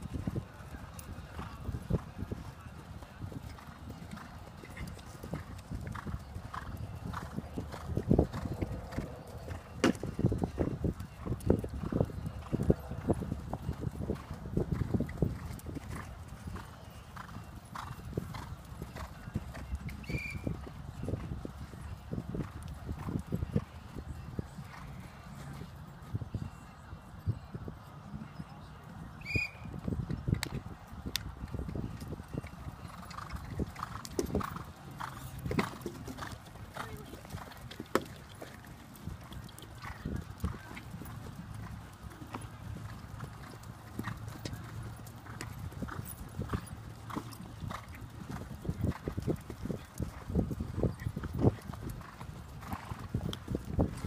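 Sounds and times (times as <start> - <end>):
horses trotting on dirt: 0.0 - 26.7, 27.4 - 54.0.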